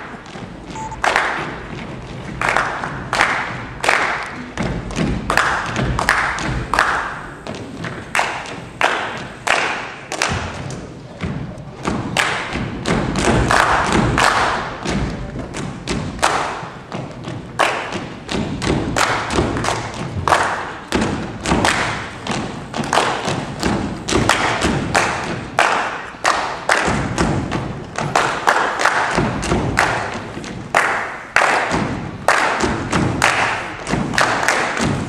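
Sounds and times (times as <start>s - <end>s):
body percussion claps and thumps: 0.0s - 35.0s.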